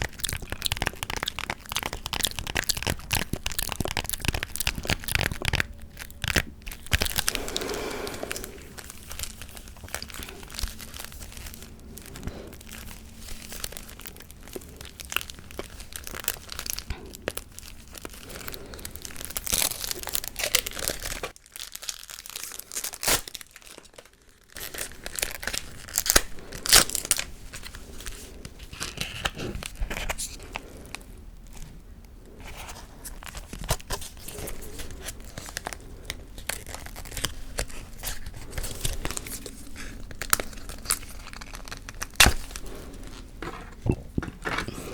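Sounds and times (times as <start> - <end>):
paper crinkling: 0.0 - 31.7, 32.4 - 44.9.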